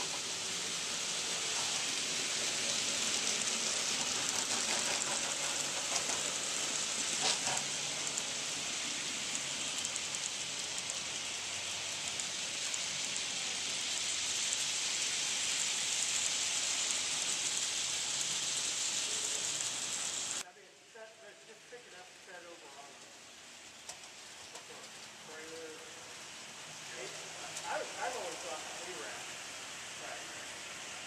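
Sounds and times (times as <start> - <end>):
model train wheels hissing on rails: 0.0 - 31.0.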